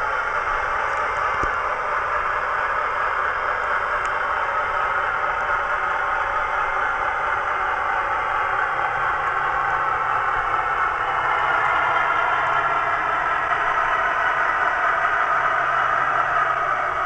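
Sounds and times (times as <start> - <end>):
diesel locomotive engine sound from speaker: 0.0 - 17.0.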